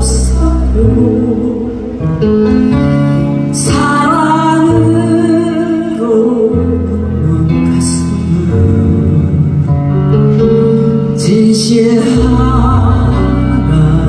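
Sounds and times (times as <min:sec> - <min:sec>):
woman singing a ballad: 0:00.0 - 0:09.8, 0:10.8 - 0:14.0
backing track with guitar: 0:00.0 - 0:14.0.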